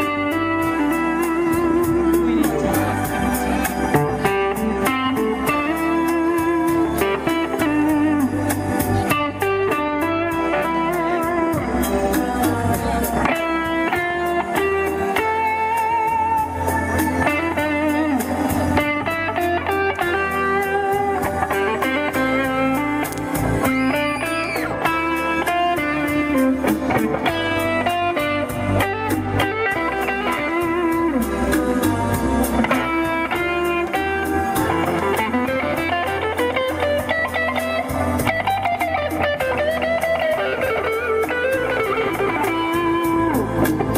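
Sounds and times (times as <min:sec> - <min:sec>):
electric guitar music: 0:00.0 - 0:43.9
steady beat: 0:00.0 - 0:43.9.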